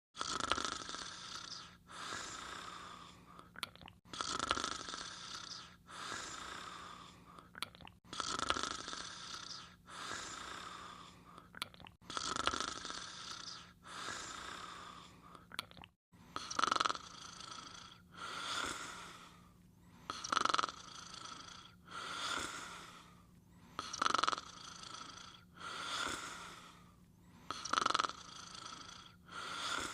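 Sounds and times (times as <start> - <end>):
snoring: 0.2 - 7.5, 8.1 - 15.4, 16.3 - 29.9.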